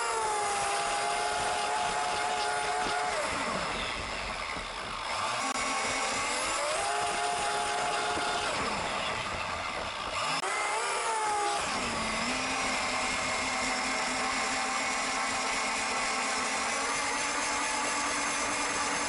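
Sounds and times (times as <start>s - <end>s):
boat motor whining: 0.0s - 19.0s.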